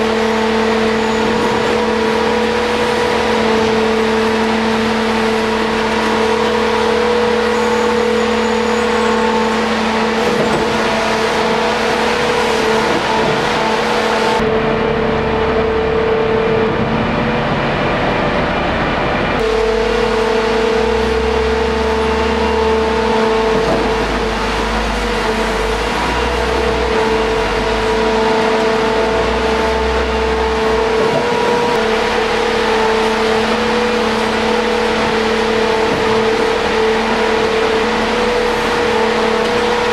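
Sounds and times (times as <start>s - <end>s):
tunnelling machine humming whine: 0.0s - 39.9s.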